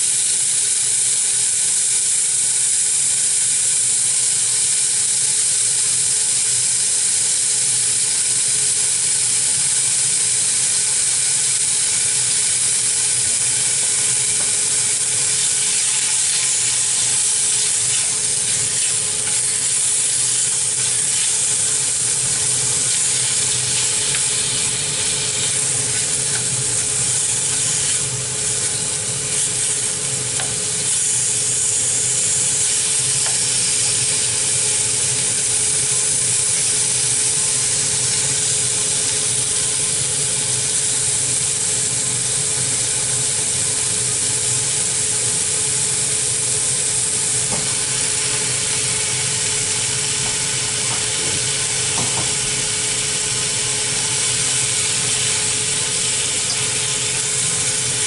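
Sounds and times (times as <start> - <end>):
onions and pork sizzling in saucepan: 0.0 - 58.0
range hood fan humming: 0.0 - 58.0.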